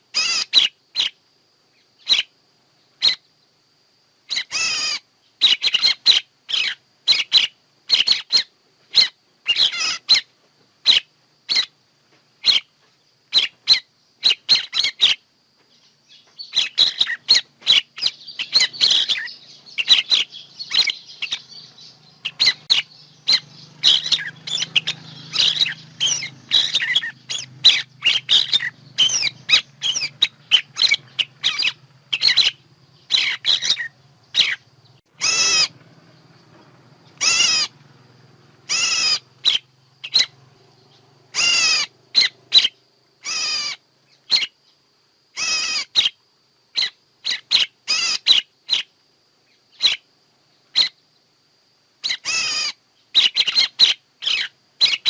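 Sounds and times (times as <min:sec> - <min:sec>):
songbird chirps and twitters: 0:00.0 - 0:03.6, 0:04.2 - 0:51.4, 0:52.0 - 0:55.0.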